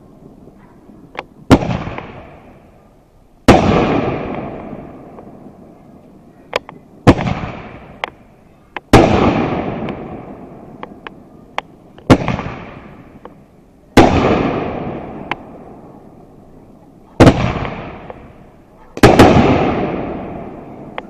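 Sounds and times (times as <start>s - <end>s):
loud fireworks bursts: 0.0s - 21.0s
sharp firework pops: 0.6s - 2.6s, 3.4s - 5.4s, 6.0s - 15.6s, 17.0s - 21.0s.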